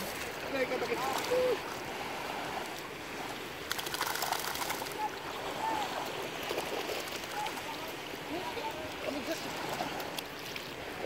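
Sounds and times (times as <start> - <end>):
dogs swimming splashing water: 0.0 - 10.8.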